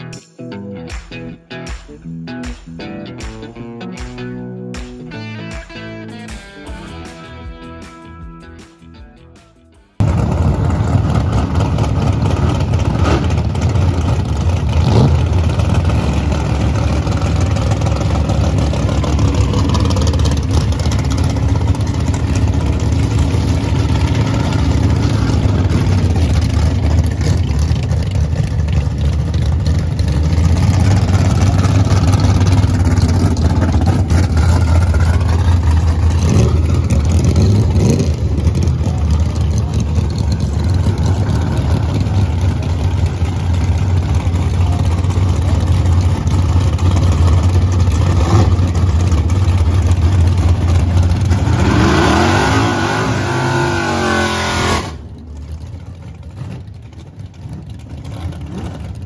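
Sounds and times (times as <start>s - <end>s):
vee eight engines idling: 10.0s - 59.0s.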